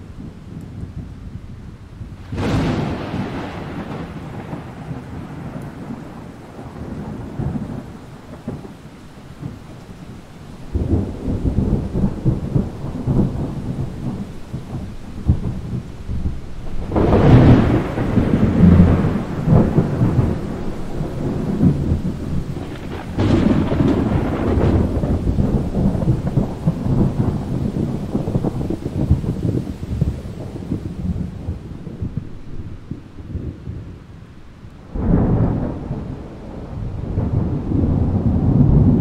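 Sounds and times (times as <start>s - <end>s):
rain: 0.0s - 39.0s
thunder rumbling: 0.0s - 39.0s.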